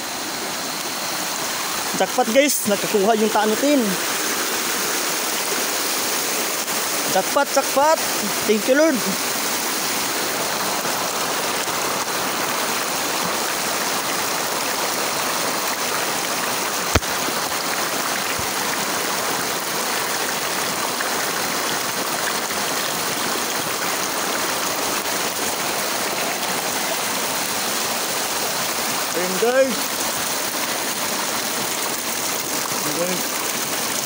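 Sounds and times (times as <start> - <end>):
stream water over rocks: 0.0 - 34.0.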